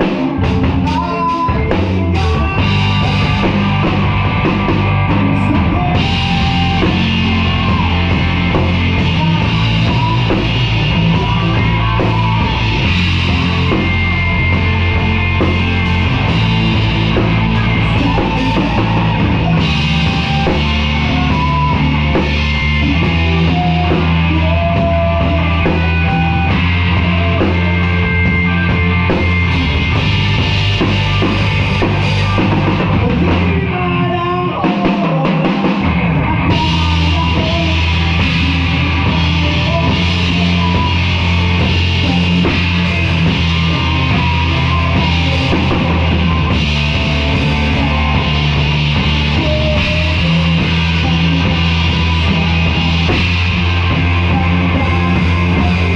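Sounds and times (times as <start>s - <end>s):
heavy bass line: 0.0s - 55.9s
live rock band playing: 0.0s - 55.9s.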